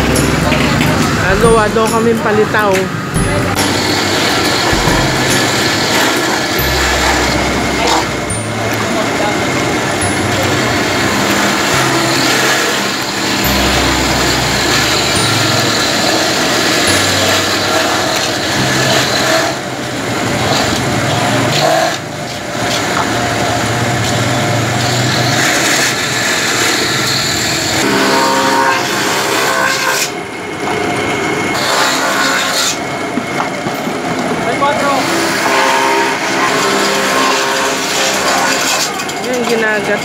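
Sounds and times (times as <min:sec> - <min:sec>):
coconut being grated: 0:00.0 - 0:32.9, 0:34.7 - 0:40.0
coconut grater motor hum: 0:00.0 - 0:33.3, 0:34.5 - 0:40.0.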